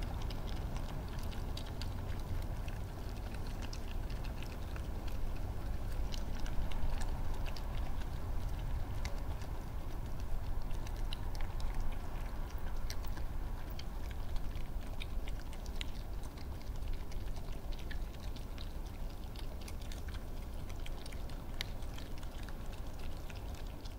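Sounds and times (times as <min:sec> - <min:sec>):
foxes crunching peanuts: 0:00.0 - 0:23.9
low background rumble: 0:00.0 - 0:23.9.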